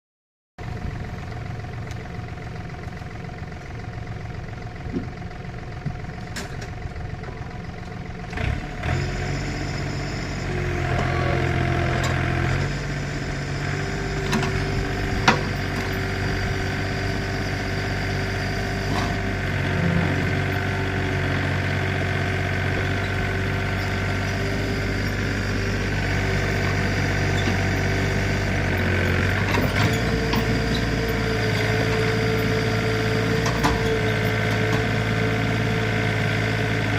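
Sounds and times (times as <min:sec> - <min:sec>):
backhoe diesel engine running: 0:00.6 - 0:36.9.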